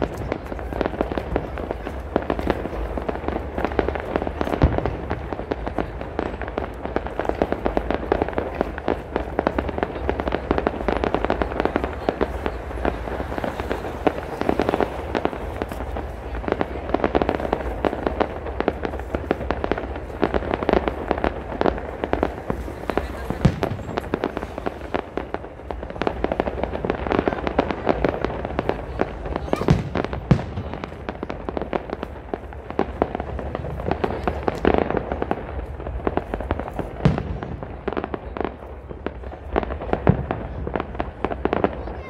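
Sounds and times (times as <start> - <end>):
fireworks bangs and crackles: 0.0 - 42.0
loud firework booms: 0.0 - 42.0.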